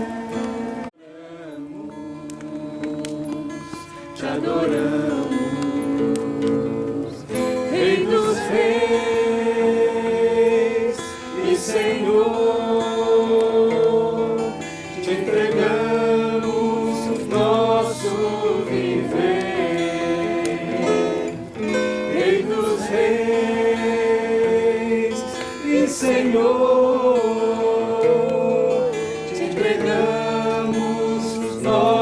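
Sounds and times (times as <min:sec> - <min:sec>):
congregation singing worship song: 0:00.0 - 0:32.0
guitar accompaniment: 0:00.0 - 0:32.0.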